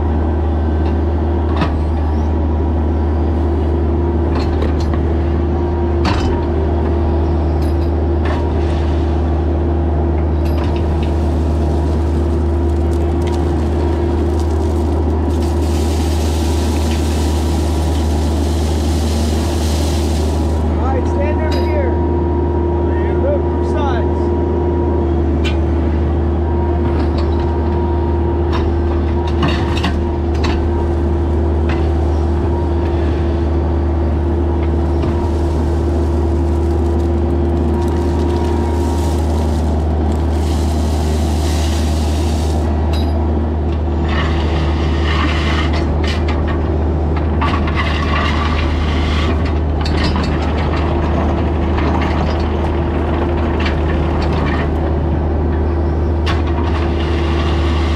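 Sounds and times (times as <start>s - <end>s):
heavy engine running: 0.0s - 57.9s.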